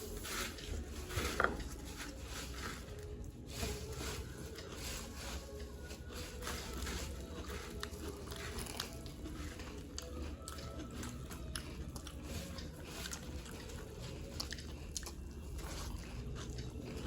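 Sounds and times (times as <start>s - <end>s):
chewing crunchy snacks: 0.0s - 17.0s.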